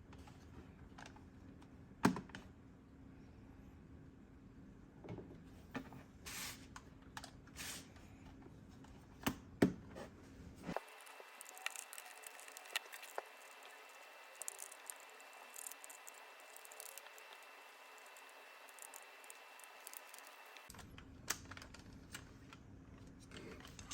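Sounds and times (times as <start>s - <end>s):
low background hum: 0.0s - 23.9s.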